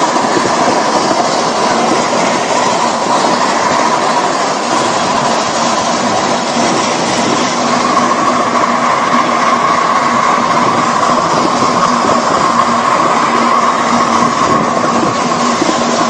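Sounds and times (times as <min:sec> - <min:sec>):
miniature train rolling on track: 0:00.0 - 0:16.0.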